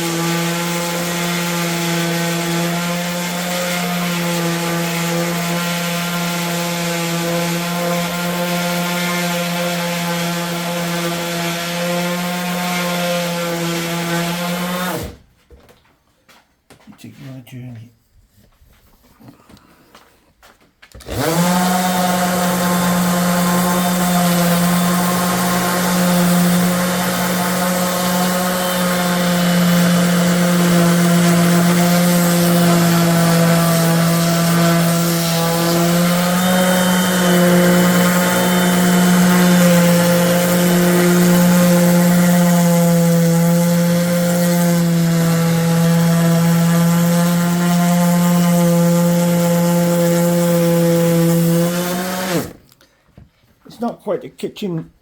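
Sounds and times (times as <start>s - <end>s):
electric power sander on wood: 0.0s - 15.2s, 20.9s - 52.7s.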